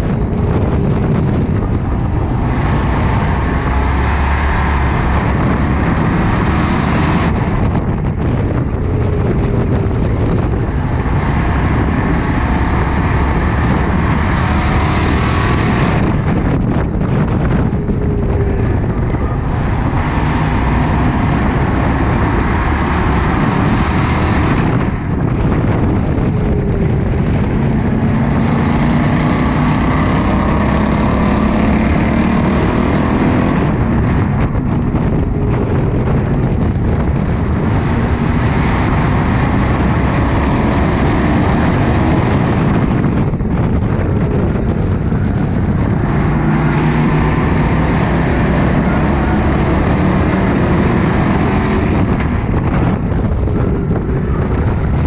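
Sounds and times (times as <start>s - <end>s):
race car engine running hard: 0.0s - 55.0s
wind and road noise: 0.0s - 55.0s.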